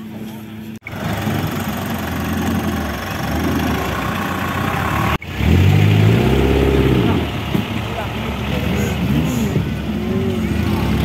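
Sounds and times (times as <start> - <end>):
off-road engines running: 0.0 - 11.0
engine revving: 0.8 - 11.0.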